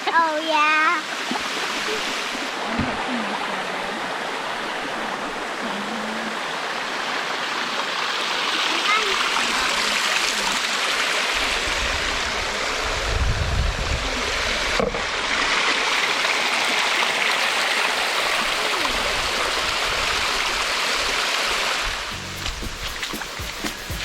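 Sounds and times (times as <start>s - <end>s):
waterfall rushing: 0.0s - 13.1s, 14.0s - 24.0s.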